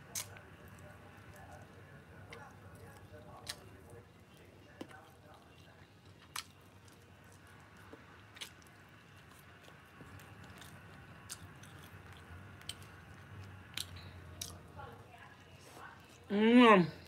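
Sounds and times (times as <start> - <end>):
chewing fried chicken: 0.0 - 16.3.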